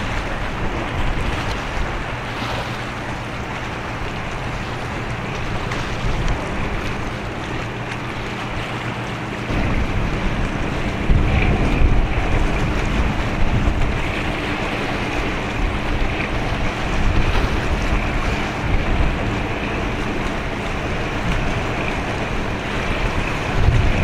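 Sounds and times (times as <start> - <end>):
sea noise: 0.0 - 24.0
wind buffeting microphone: 0.0 - 24.0.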